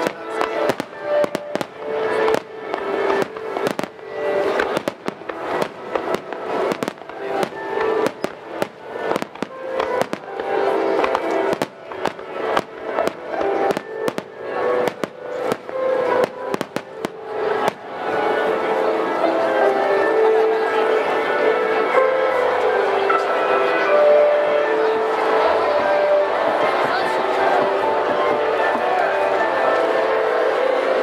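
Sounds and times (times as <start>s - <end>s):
fireworks bangs and crackles: 0.0s - 20.6s, 23.0s - 31.0s
music playing: 0.0s - 31.0s.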